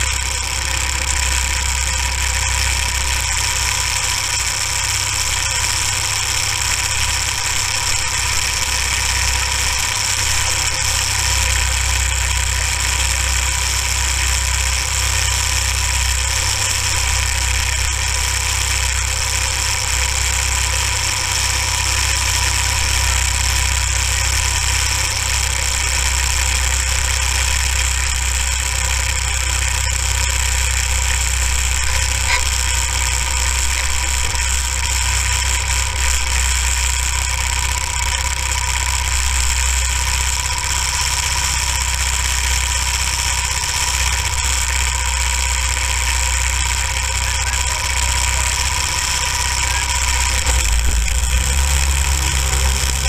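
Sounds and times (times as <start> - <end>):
go-kart engine idling: 0.0 - 53.0.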